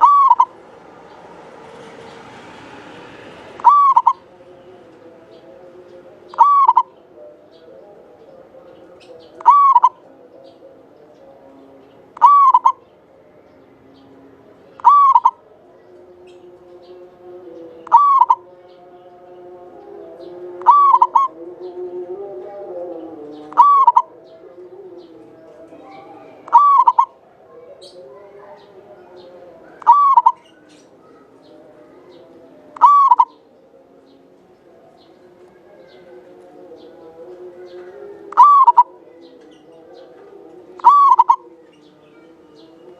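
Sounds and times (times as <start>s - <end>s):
dove cooing: 0.0s - 0.6s, 3.6s - 11.0s, 12.2s - 12.9s, 14.7s - 18.6s, 20.1s - 42.9s.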